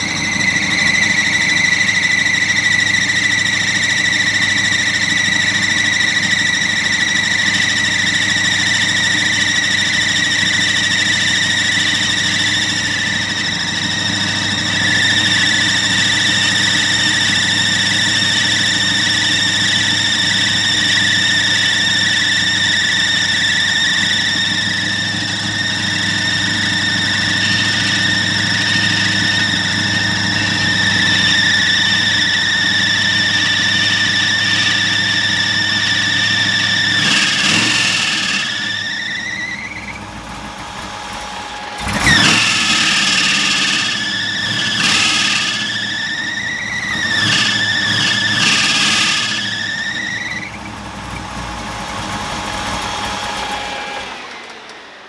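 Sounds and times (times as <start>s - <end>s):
alternator squealing: 0.0s - 55.0s
car engine idling: 0.0s - 55.0s.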